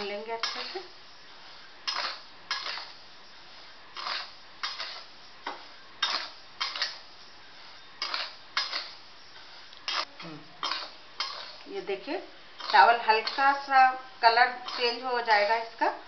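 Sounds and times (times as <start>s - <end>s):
metal spatula scraping rice: 0.0s - 12.0s, 12.6s - 15.8s.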